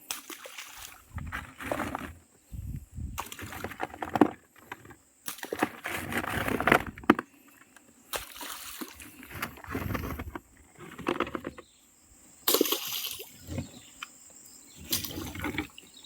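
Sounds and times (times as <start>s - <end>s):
mud sloshing and splashing: 0.0s - 7.2s, 8.1s - 11.5s, 12.5s - 13.9s, 14.8s - 16.0s.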